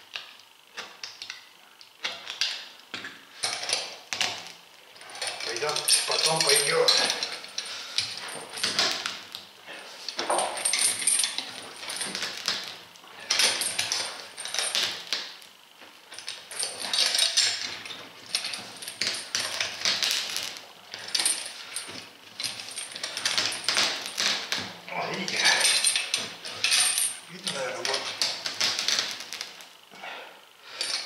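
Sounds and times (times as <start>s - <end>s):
steel chain clinking and rattling: 3.4s - 9.4s, 10.1s - 15.4s, 16.0s - 29.7s, 30.8s - 31.0s.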